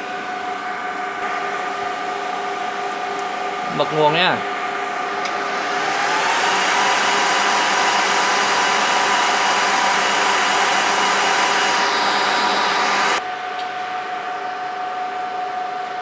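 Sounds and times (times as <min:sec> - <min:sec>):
server cooling fans running: 0:00.0 - 0:15.3
faint fan whine: 0:00.0 - 0:16.0.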